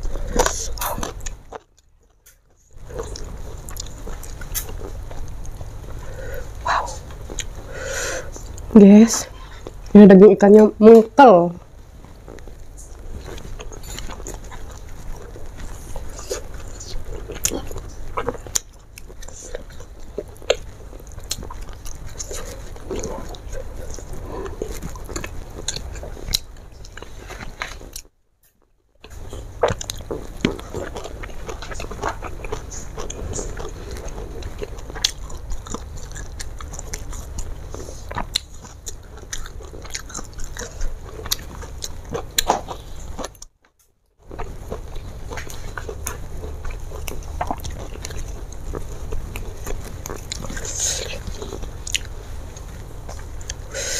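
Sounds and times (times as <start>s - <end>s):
person chewing: 0.0s - 9.9s, 12.0s - 28.1s, 29.0s - 53.9s.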